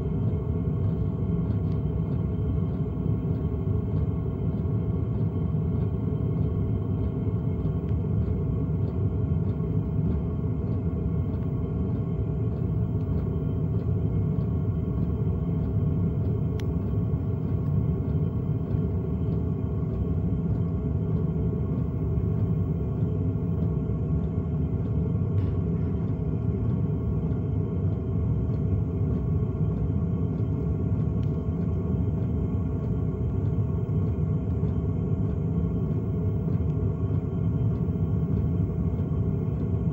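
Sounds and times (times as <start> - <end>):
air heater rumbling: 0.0 - 39.9
faint regular ticking: 0.0 - 39.9.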